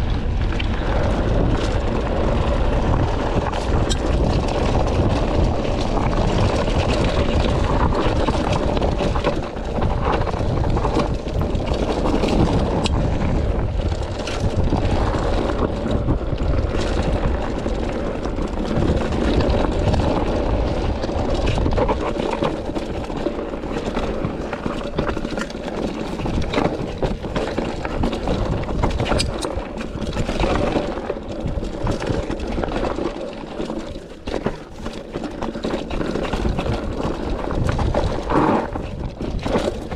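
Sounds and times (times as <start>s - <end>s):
wind buffeting microphone: 0.0s - 33.1s, 35.8s - 39.9s
bike rattling: 0.0s - 39.9s
tyres crunching over gravel: 0.1s - 39.9s.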